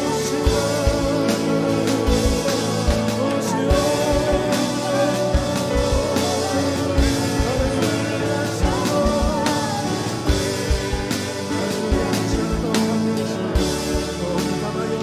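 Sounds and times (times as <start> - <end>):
electric guitar: 0.0 - 15.0
people singing into microphones: 0.0 - 15.0
steady low drum beat: 0.0 - 15.0.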